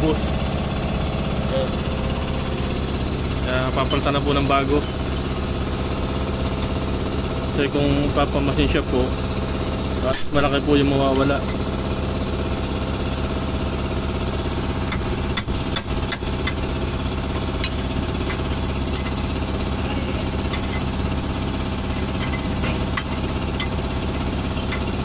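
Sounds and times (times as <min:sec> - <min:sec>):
mechanical engine drone: 0:00.0 - 0:25.0.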